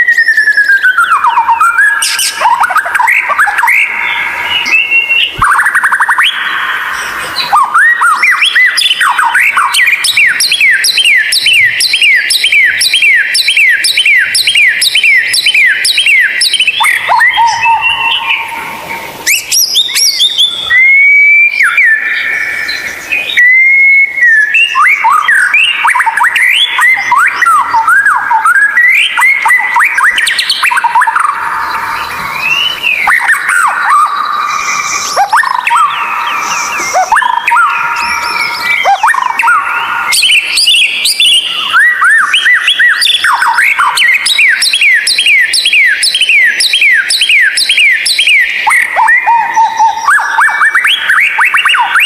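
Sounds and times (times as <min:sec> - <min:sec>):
bird singing: 0:00.0 - 0:52.0.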